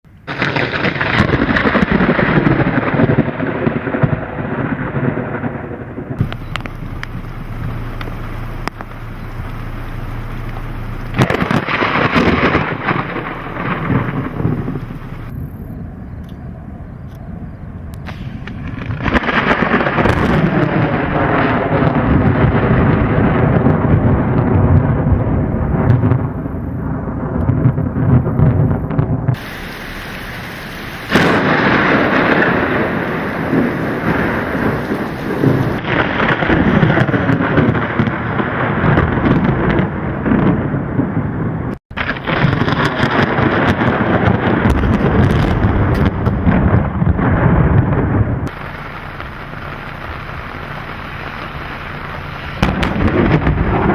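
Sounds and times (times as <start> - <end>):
rain: 0.1 - 15.8, 18.0 - 53.9
rolling thunder: 0.2 - 53.9.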